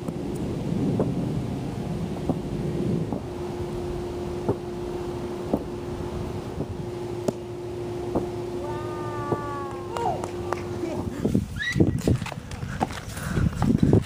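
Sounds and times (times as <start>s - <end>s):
steady hum: 0.0s - 14.0s
wind buffeting microphone: 0.0s - 14.0s.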